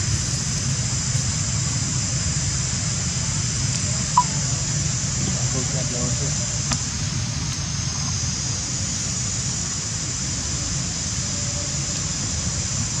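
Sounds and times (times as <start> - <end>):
constant high hiss: 0.0 - 13.0.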